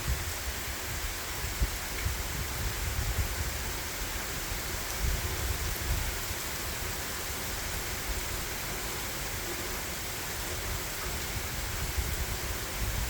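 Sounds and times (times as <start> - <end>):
heavy rain falling: 0.0 - 13.0
runoff water running: 0.0 - 13.0.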